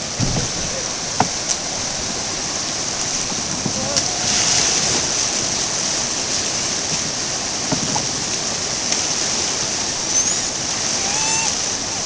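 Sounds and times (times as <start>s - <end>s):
water pouring over waterfall: 0.0s - 12.0s.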